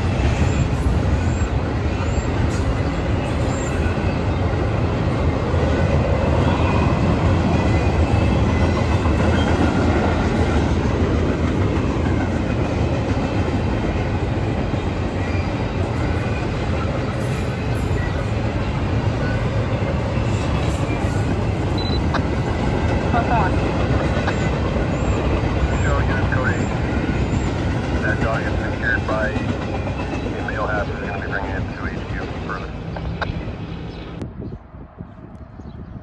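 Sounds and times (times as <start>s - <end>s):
train rolling on tracks: 0.0s - 35.9s.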